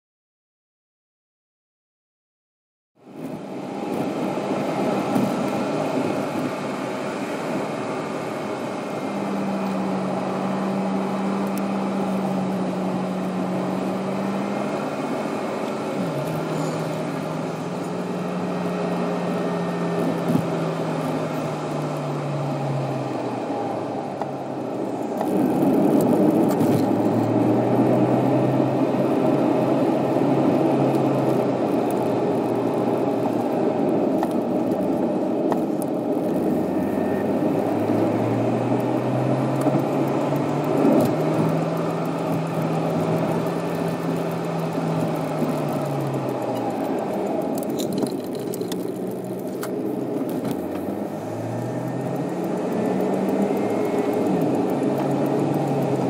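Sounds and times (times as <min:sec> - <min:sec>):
car engine: 0:03.0 - 0:56.0
road noise: 0:03.0 - 0:56.0.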